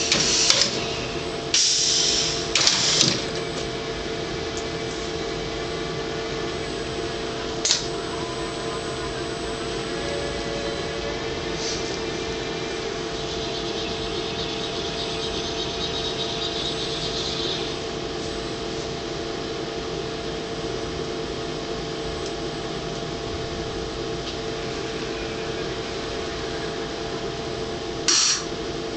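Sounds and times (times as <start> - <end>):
hissing whirr: 0.0 - 28.9
machinery humming: 0.0 - 28.9.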